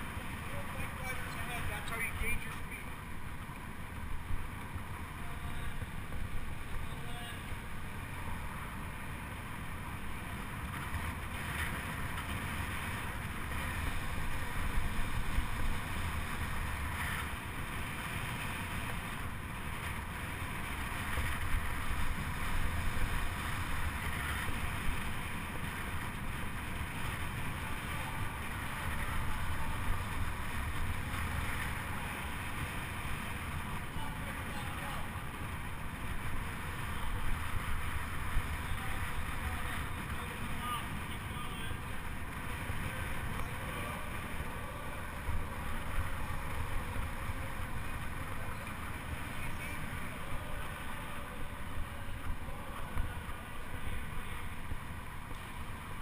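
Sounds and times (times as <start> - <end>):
bike rolling on track: 0.0 - 56.0.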